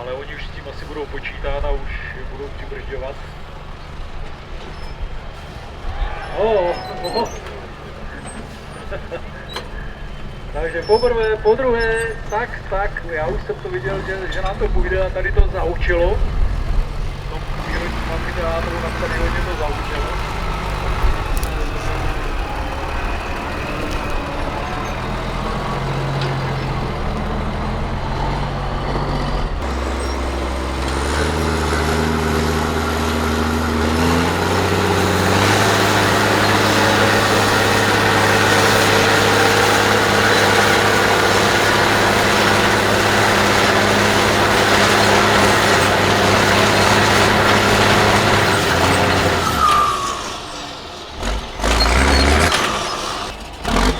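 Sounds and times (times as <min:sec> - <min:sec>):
truck diesel engine revving: 0:00.0 - 0:53.9.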